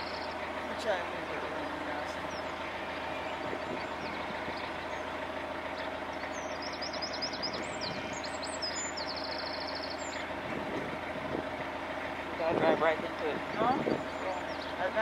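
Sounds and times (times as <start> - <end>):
boat engine humming: 0.0 - 15.0
songbird singing: 0.0 - 15.0.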